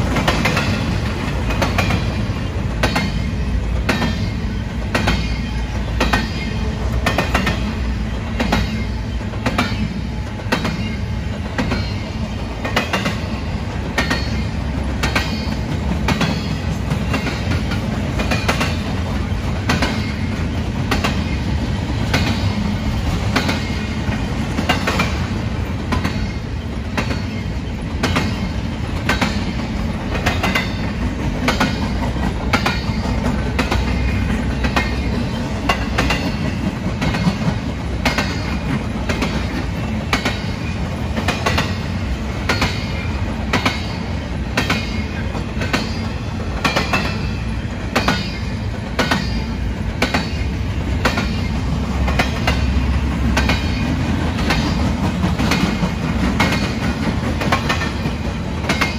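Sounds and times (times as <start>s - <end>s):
train rumble: 0.0s - 58.9s
train wheels clacking: 0.0s - 58.9s.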